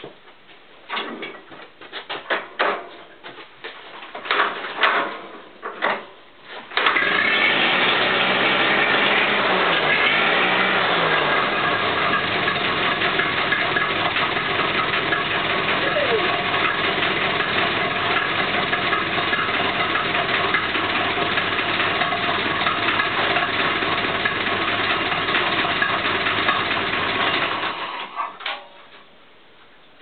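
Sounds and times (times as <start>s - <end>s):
tractor engine starting and running: 4.3s - 28.9s.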